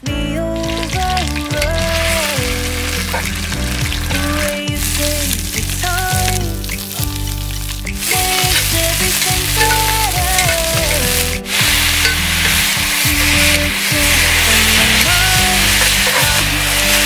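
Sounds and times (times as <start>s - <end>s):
meat sizzling in a skillet: 0.6s - 17.0s.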